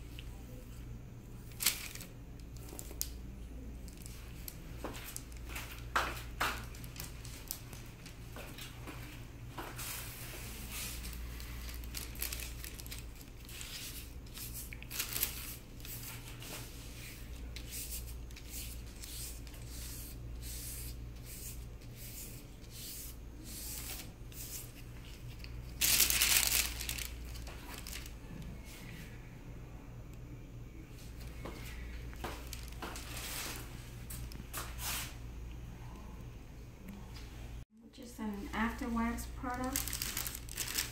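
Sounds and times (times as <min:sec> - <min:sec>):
wax strip crinkling and rubbing: 0:01.4 - 0:28.8, 0:31.0 - 0:35.2, 0:39.5 - 0:40.9.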